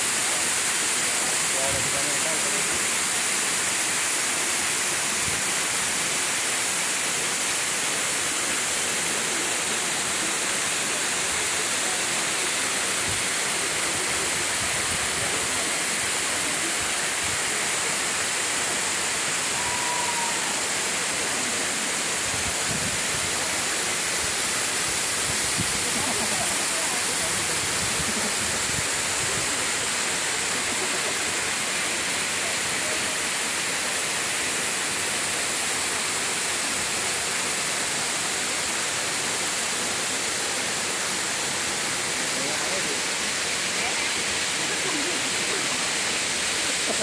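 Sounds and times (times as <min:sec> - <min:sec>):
rushing water: 0:00.0 - 0:47.0.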